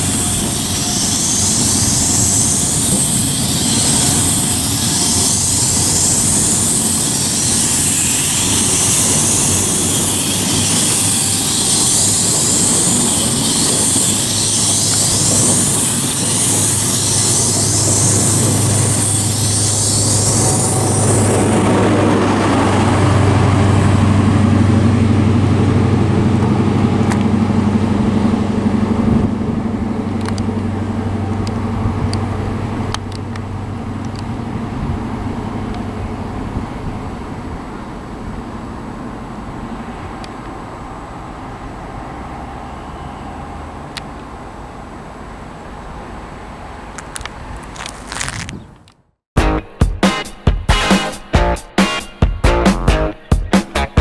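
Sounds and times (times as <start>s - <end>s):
low engine hum: 0.0s - 48.9s
train passing at speed: 0.0s - 49.0s.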